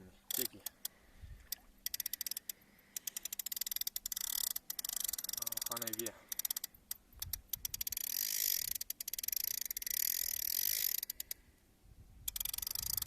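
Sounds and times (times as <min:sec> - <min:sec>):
fishing reel drag clicking: 0:00.3 - 0:11.4, 0:12.3 - 0:13.0.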